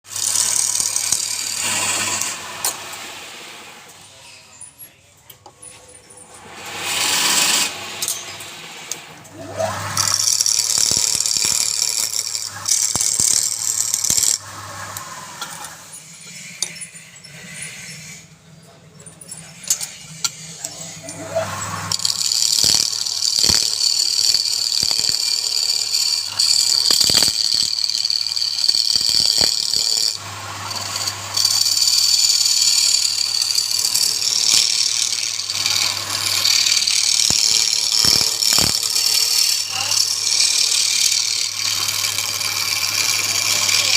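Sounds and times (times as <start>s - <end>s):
power tool cutting wood: 0.0s - 4.4s, 6.4s - 18.2s, 19.3s - 43.9s.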